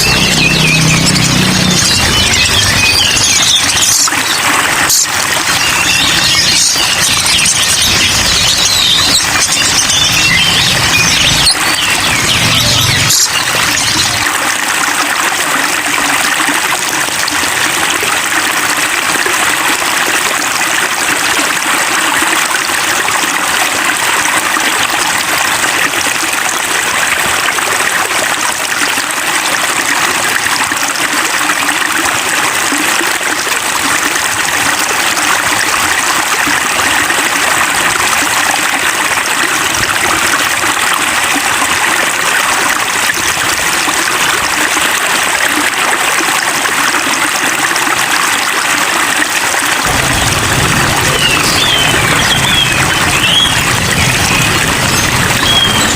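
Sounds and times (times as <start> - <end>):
running splashing water: 0.0 - 55.9.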